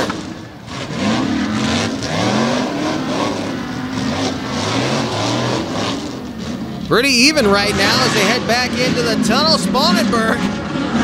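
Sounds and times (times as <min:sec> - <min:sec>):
race truck engines revving: 0:00.0 - 0:11.0.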